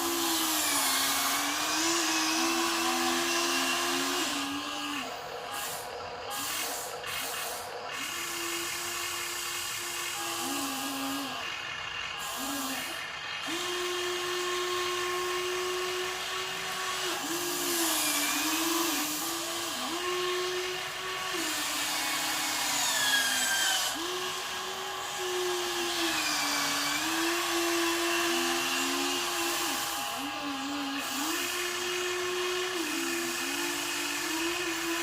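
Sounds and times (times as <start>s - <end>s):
toy electric motors whining: 0.0s - 35.0s.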